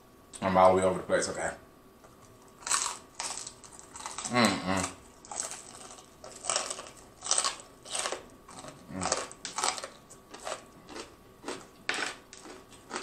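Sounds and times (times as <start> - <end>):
chewing crunchy fried chicken: 2.3 - 13.0.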